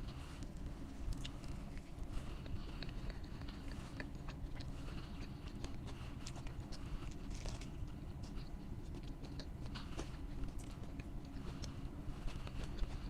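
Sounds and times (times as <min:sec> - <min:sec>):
crunchy chewing and biting: 0:00.0 - 0:13.0.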